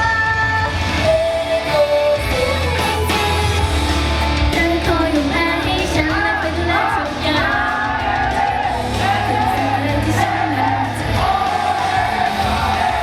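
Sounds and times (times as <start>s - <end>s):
woman singing: 0.0s - 8.1s, 8.9s - 13.0s
pop backing music: 0.0s - 13.0s.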